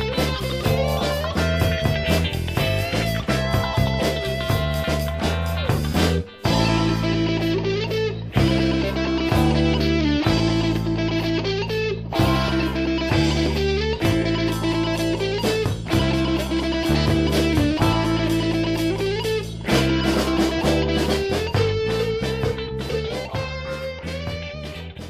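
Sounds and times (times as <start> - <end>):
guitar-led instrumental music: 0.0 - 25.0.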